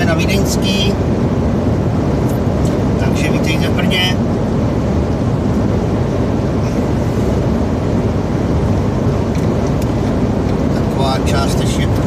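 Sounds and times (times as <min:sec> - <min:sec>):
truck engine drone: 0:00.0 - 0:12.0
tyre and road noise: 0:00.0 - 0:12.0.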